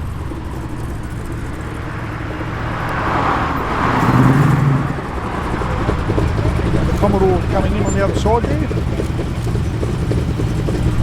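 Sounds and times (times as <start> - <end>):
car driving past slowly: 0.0 - 11.0.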